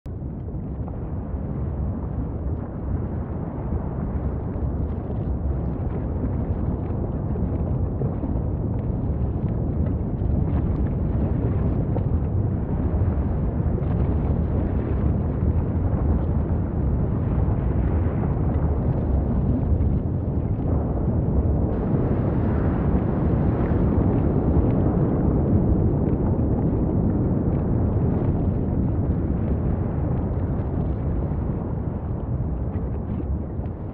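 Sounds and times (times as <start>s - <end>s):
faint lava crackles: 0.0s - 33.9s
volcanic vent rumbling: 0.0s - 33.9s.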